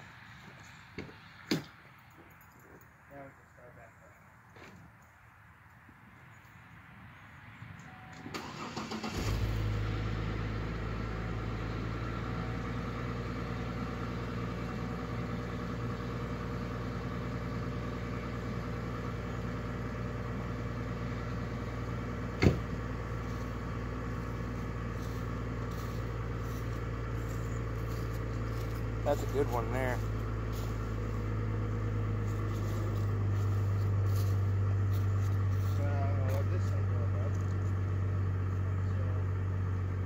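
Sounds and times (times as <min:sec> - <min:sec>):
car engine starting and idling: 0:07.8 - 0:40.0.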